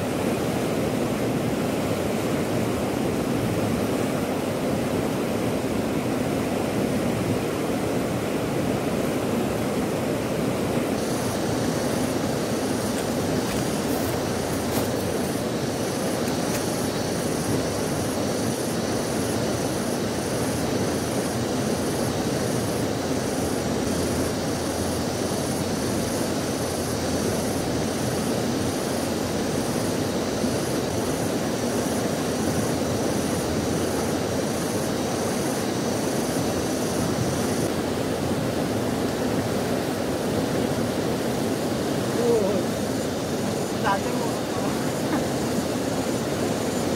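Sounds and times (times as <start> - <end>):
river rushing over rapids: 0.0 - 46.9.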